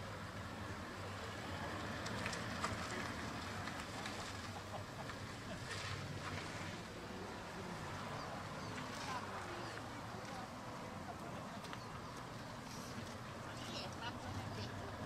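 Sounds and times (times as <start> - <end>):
car engine and tyre noise: 0.0 - 15.0
outdoor air noise: 0.0 - 15.0.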